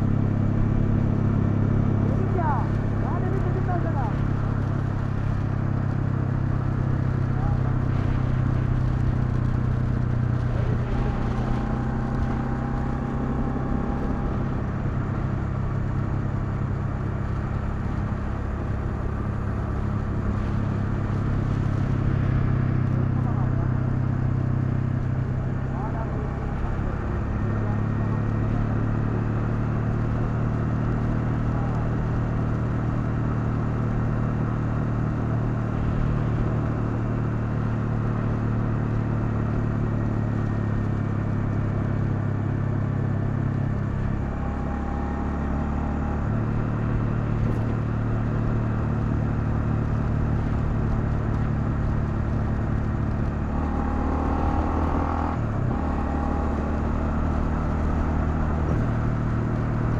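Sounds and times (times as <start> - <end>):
motorcycle engine running: 0.0 - 59.9
road noise: 0.0 - 59.9
wind: 0.0 - 59.9.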